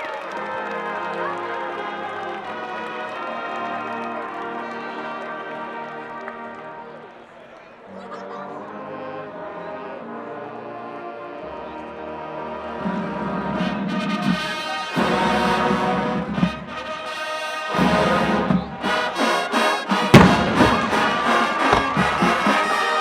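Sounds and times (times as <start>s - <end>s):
marching band brass chords: 0.1s - 7.0s, 8.8s - 23.0s.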